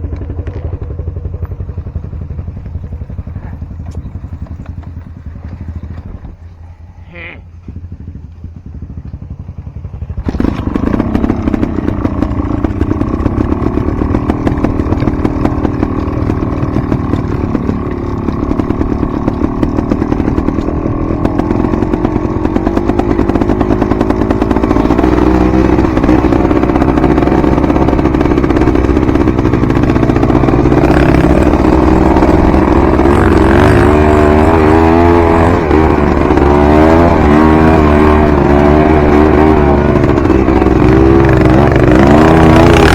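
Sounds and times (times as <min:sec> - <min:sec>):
dirt bike engine revving: 0:02.0 - 0:42.9.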